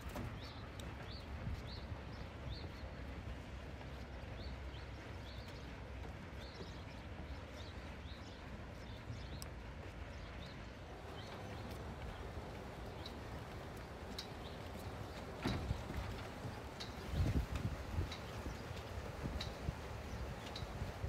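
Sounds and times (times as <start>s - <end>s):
footsteps on wooden decking: 0.0s - 21.0s
low steady rumble: 0.4s - 21.0s.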